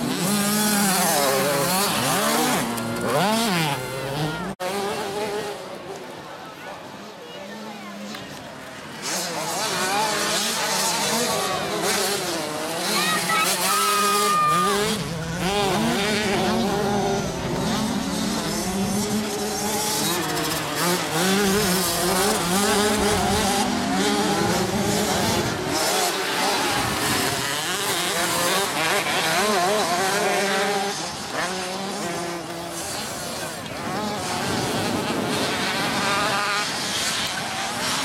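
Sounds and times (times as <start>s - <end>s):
minibike engines revving: 0.0s - 38.0s.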